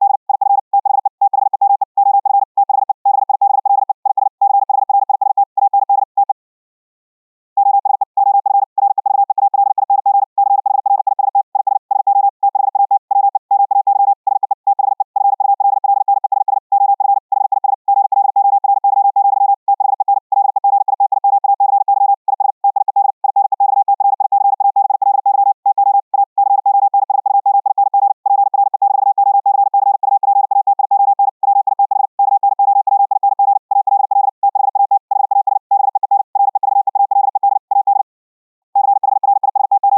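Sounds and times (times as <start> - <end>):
morse code tone: 0.0 - 6.3, 7.6 - 18.1, 19.8 - 38.1, 38.8 - 39.9.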